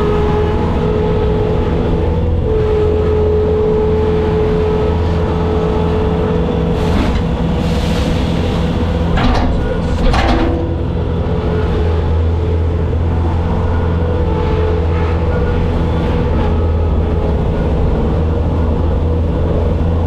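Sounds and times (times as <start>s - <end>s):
constant whine: 0.0s - 20.0s
diesel engine running: 0.0s - 20.0s.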